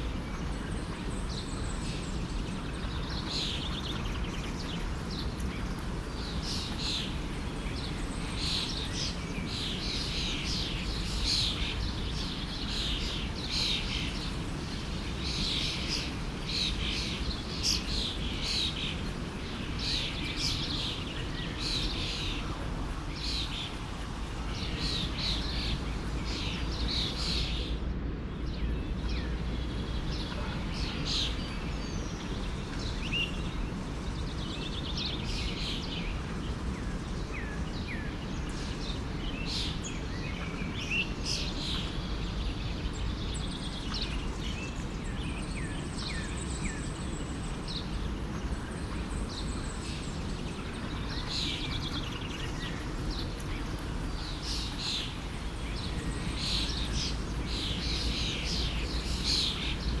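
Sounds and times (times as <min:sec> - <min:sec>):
songbirds chirping and trilling: 0:00.0 - 1:00.0
forest stream rushing: 0:04.5 - 0:28.0, 0:28.8 - 1:00.0.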